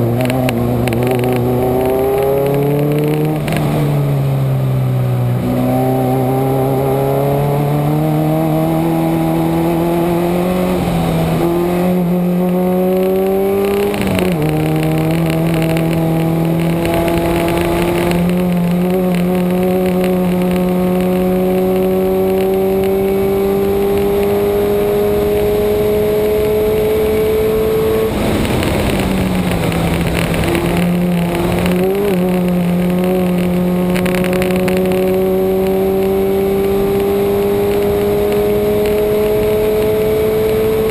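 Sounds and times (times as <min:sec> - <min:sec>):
car engine accelerating: 0:00.0 - 0:40.9
road and wind noise: 0:00.0 - 0:40.9.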